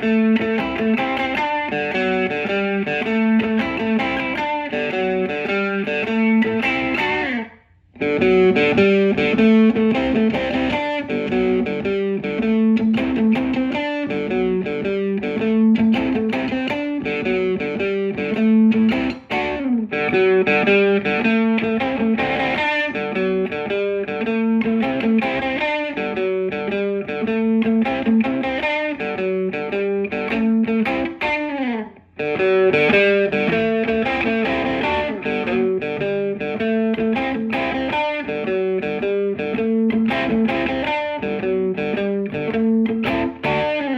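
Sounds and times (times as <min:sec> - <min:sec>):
overdriven electric guitar riff: 0:00.0 - 0:43.9.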